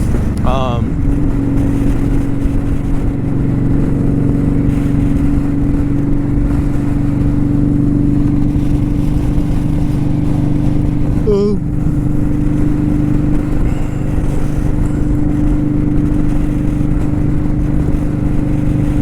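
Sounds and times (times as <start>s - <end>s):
motorcycle engine running steadily: 0.0s - 19.0s.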